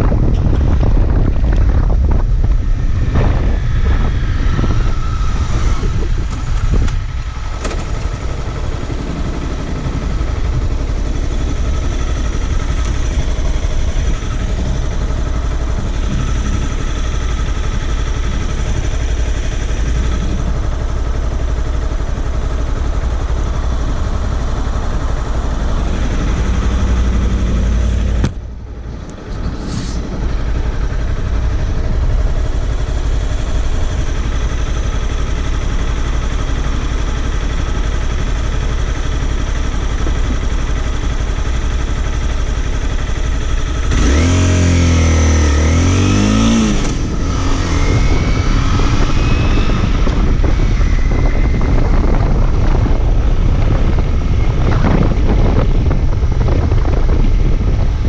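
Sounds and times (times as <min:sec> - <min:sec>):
wind rushing over microphone: 0:00.0 - 0:36.2, 0:37.2 - 0:58.0
motorcycle engine: 0:00.0 - 0:58.0.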